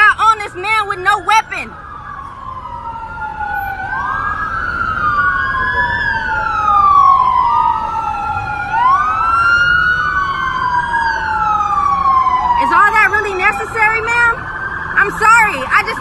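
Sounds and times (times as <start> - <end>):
police sirens wailing: 0.0 - 16.0.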